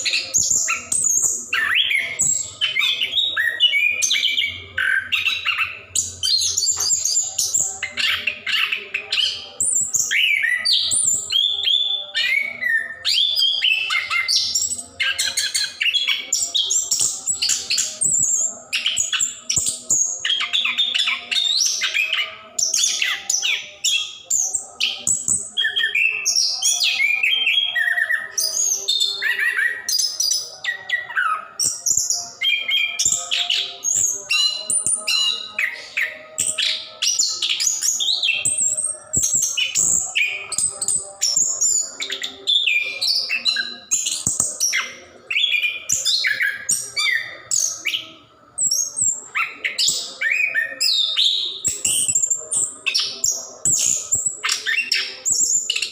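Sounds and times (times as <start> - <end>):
thrush singing: 0.0 - 55.9.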